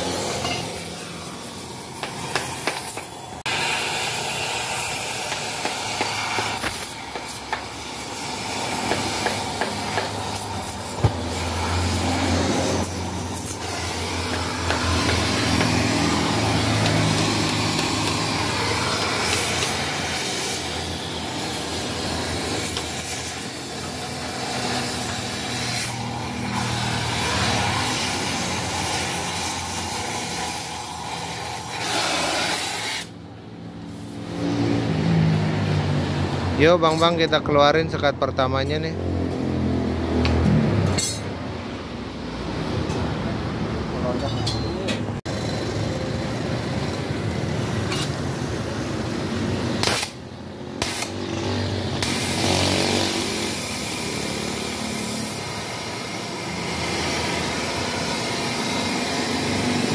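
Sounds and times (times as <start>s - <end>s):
hissing metalworking noise: 0.0s - 35.0s, 36.5s - 39.4s, 40.2s - 59.9s.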